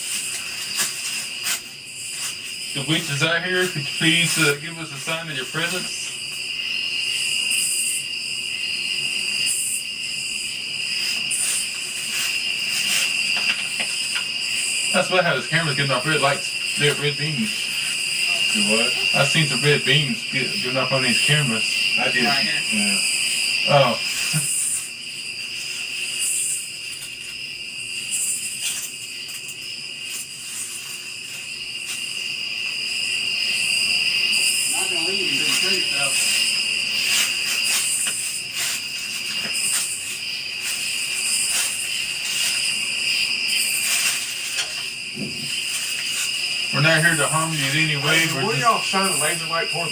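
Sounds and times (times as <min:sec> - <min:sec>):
crickets trilling: 0:00.0 - 0:49.9
hissy insect call: 0:00.0 - 0:49.9.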